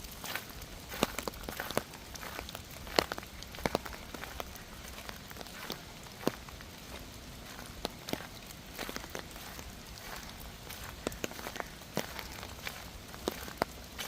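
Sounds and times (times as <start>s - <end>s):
rain falling: 0.0s - 14.0s
sharp taps of raindrops: 0.0s - 14.0s.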